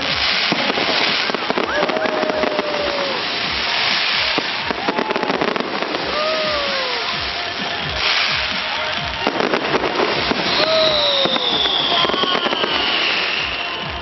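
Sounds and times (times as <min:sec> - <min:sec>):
falling firework whistle: 0:00.0 - 0:14.0
fireworks crackling and banging: 0:00.0 - 0:14.0.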